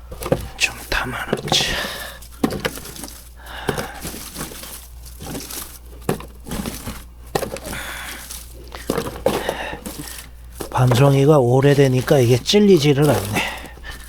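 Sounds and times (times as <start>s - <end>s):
dry burrs rustling and crunching: 0.0s - 14.0s.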